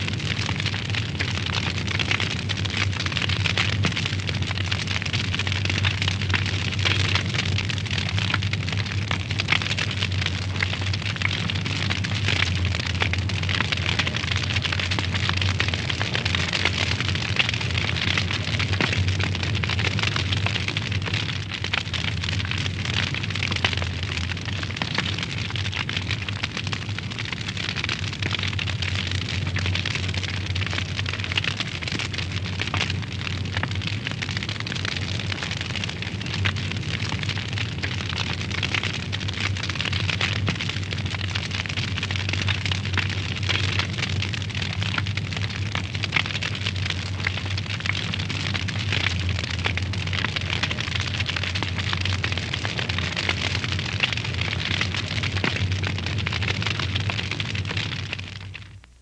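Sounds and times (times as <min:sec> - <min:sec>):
fire low rumble: 0:00.0 - 0:59.0
wood fire crackling and popping: 0:00.0 - 0:59.0.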